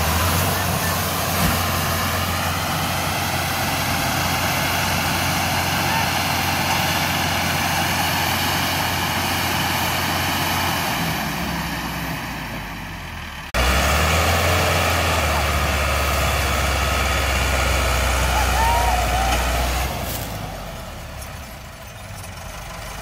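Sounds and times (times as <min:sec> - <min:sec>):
tractor diesel engines droning: 0:00.0 - 0:23.0.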